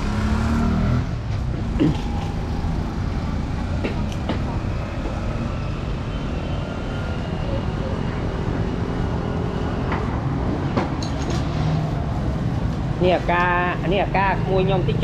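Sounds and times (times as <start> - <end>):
traffic passing: 0.0 - 15.0.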